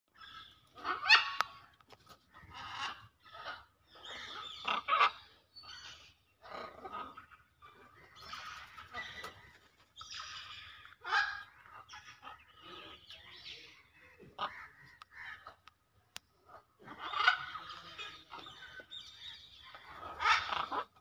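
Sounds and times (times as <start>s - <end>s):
macaws squawking: 0.2s - 15.8s, 16.5s - 21.0s.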